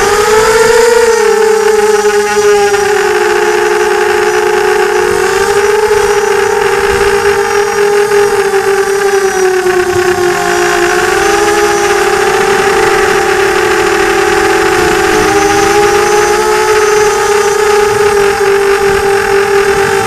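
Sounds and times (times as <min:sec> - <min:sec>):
drone motors buzzing whine: 0:00.0 - 0:20.0.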